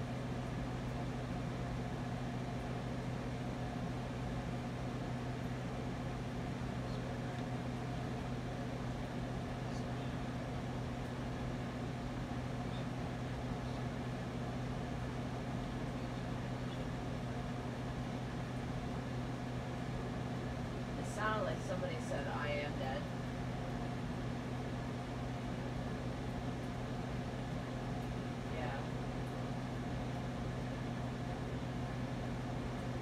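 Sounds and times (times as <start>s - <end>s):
constant low hum: 0.0s - 33.0s.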